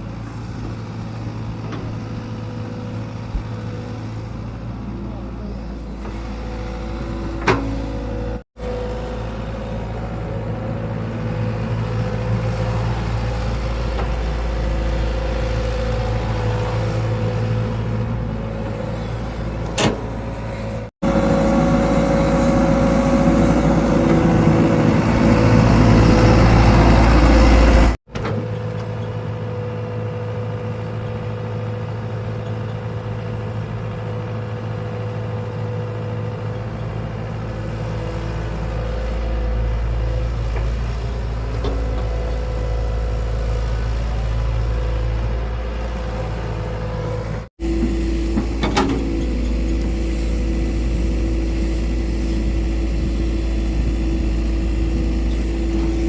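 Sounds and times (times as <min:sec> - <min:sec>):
excavator diesel engine rumbling: 0:00.0 - 0:56.0.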